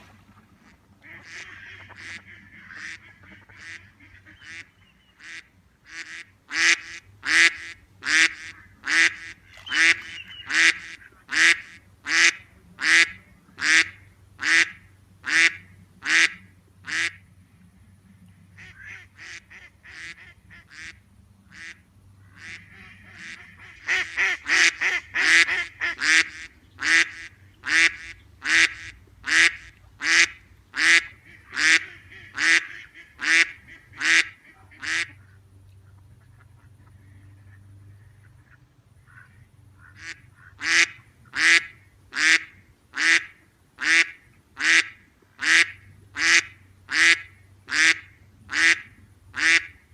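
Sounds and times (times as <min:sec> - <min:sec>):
ducks quacking: 0:00.0 - 0:17.3, 0:18.6 - 0:49.9.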